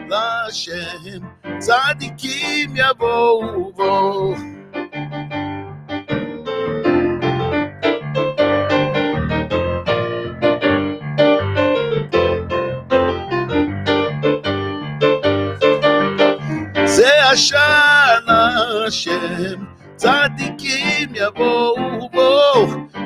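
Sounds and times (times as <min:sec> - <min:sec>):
electronic keyboard piano chords: 0:00.0 - 0:23.0.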